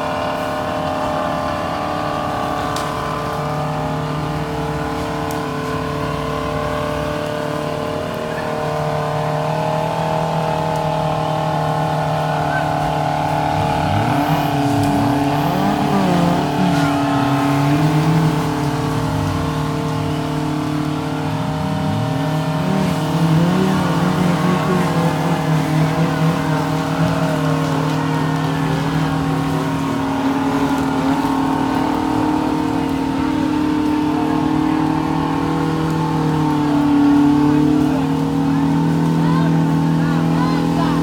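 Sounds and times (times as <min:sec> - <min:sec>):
engine revving: 0:00.0 - 0:41.0
engines running steadily: 0:00.0 - 0:41.0.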